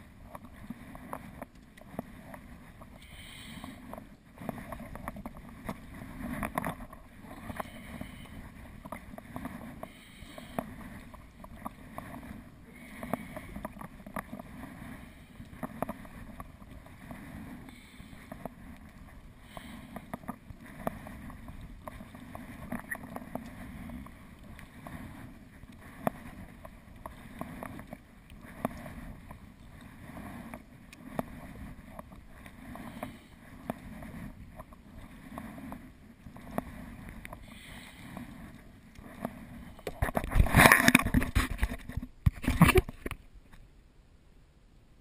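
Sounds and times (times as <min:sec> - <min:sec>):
paddle dipping in water: 0:00.0 - 0:43.3.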